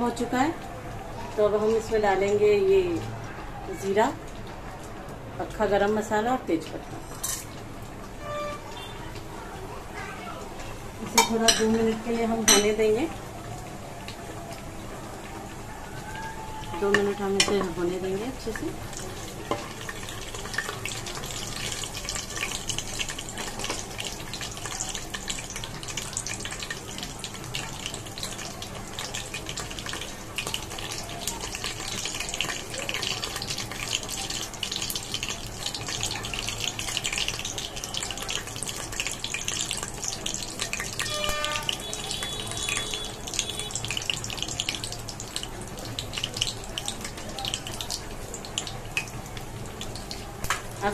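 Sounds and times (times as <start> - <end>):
spices sizzling in hot oil: 0.0 - 50.9.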